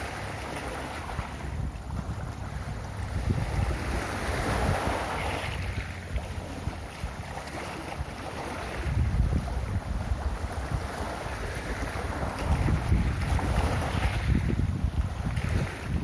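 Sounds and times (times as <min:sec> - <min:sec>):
ocean waves breaking: 0:00.0 - 0:16.0
wind rumbling on microphone: 0:00.0 - 0:16.0.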